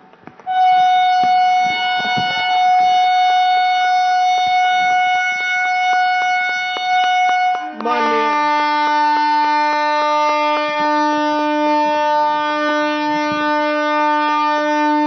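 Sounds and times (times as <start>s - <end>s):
train horn long note: 0.5s - 15.0s.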